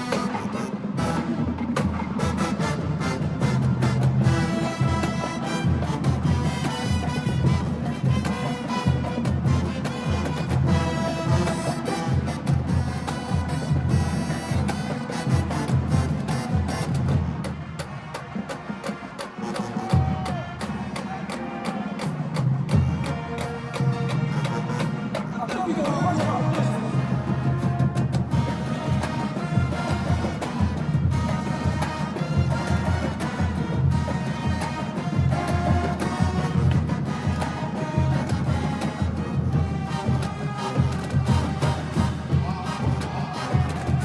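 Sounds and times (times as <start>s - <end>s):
brass horn chords: 0.0s - 17.1s, 22.7s - 44.0s
drumline drum hits: 0.0s - 44.0s
marching band playing: 0.0s - 44.0s.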